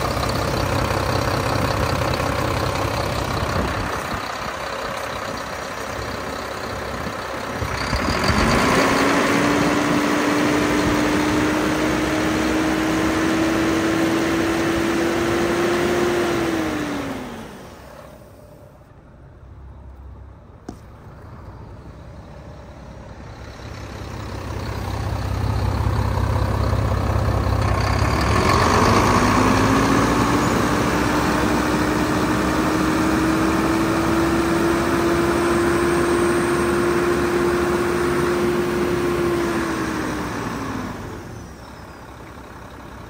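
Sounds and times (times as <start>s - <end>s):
diesel engine revving: 0.0s - 19.0s, 20.4s - 43.0s.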